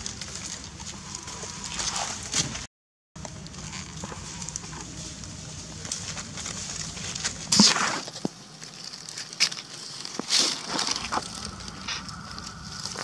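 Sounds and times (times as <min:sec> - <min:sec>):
dry leaves crackling: 0:00.0 - 0:13.0.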